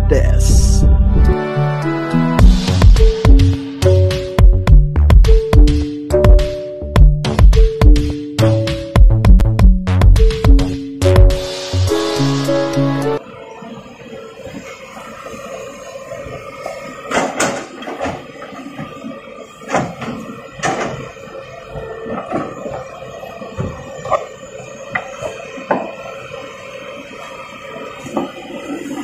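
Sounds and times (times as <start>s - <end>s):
excavator humming: 0.0s - 29.0s.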